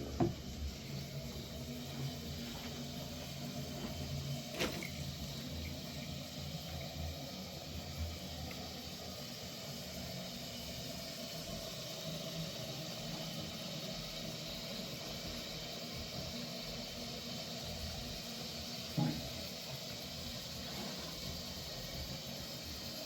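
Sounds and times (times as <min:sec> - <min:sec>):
steady hissing noise: 0:00.0 - 0:23.0.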